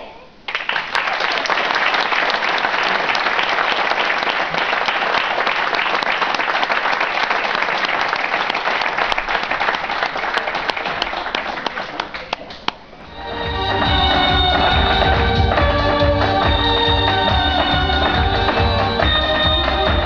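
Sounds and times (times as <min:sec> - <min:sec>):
audience applauding: 0:00.5 - 0:20.0.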